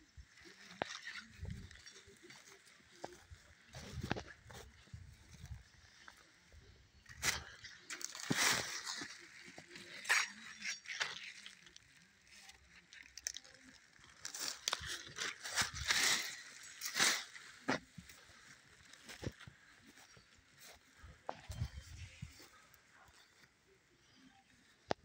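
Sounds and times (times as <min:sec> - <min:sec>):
footsteps crunching through dry grass: 0:00.1 - 0:25.0.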